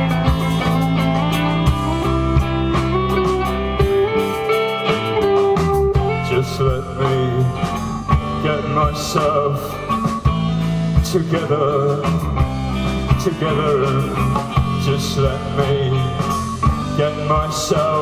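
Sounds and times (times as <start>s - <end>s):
live rock band playing: 0.0s - 18.0s
wavering lead guitar line: 0.0s - 18.0s.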